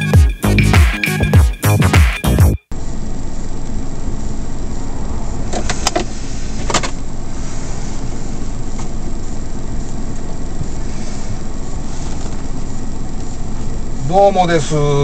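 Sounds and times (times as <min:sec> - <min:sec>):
truck engine idling: 0:02.7 - 0:15.0.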